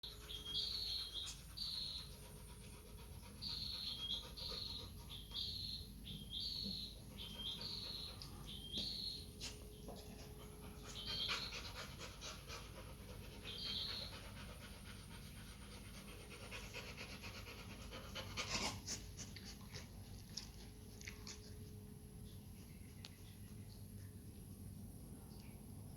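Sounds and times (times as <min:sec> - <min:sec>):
puppy panting softly: 0:00.1 - 0:05.9, 0:06.6 - 0:21.8.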